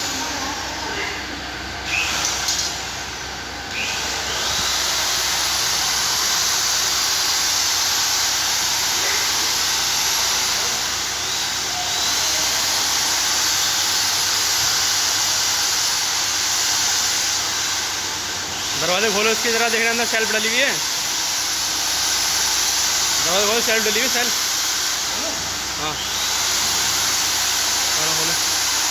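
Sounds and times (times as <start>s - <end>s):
workshop equipment rushing hiss: 0.0s - 28.9s.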